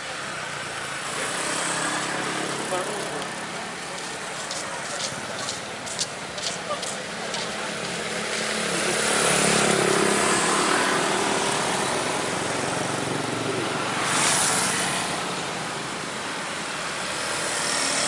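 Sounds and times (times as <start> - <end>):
vehicle passing: 1.2 - 15.9.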